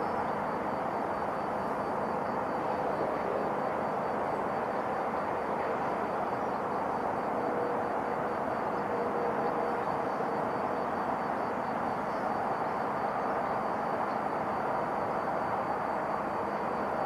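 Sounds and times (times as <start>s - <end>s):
faint high steady whine: 0.0s - 17.0s
outdoor background hiss: 0.0s - 17.0s.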